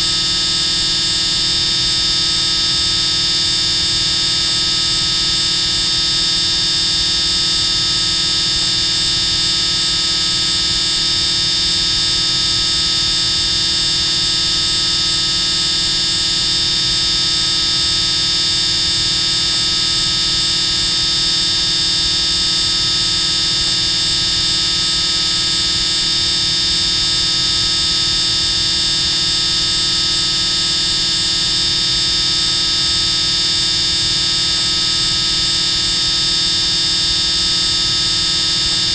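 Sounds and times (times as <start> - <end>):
loud steady buzzing: 0.0 - 38.9.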